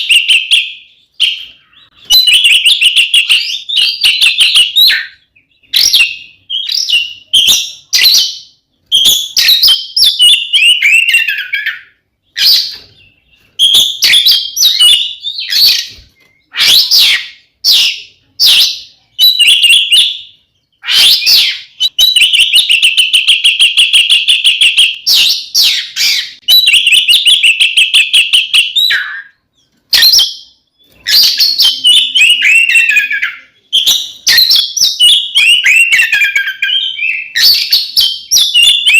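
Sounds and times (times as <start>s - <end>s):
bird singing whistled phrases: 0.0s - 38.9s.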